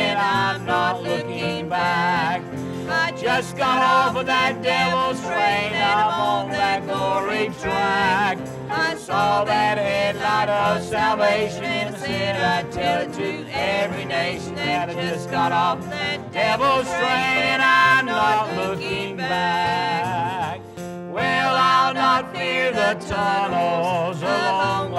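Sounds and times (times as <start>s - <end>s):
instrumental accompaniment: 0.0s - 24.9s
man singing with vibrato: 0.0s - 24.9s.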